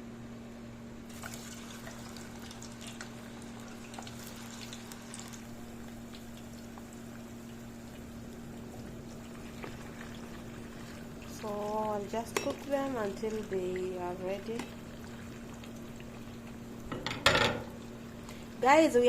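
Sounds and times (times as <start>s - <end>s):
low electrical hum: 0.0s - 19.0s
chips sizzling in hot oil: 1.0s - 19.0s.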